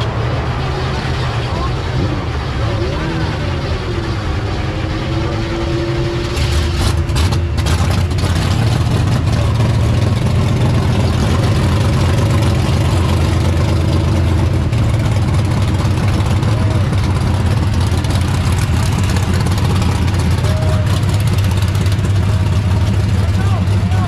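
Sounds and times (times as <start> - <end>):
engine idling with deep rumble: 0.0 - 24.0.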